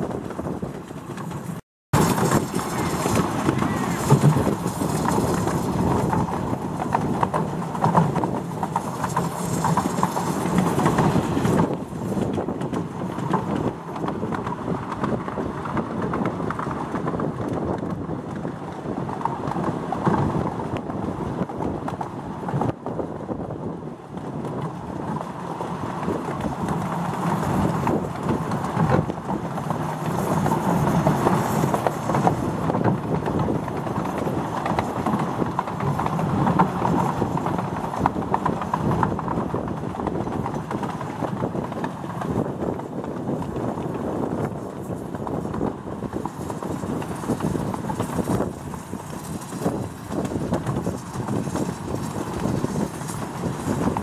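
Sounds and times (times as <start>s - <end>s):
miniature steam train wheels rumbling: 0.0s - 54.0s
wheels clicking over rail joints: 0.0s - 54.0s.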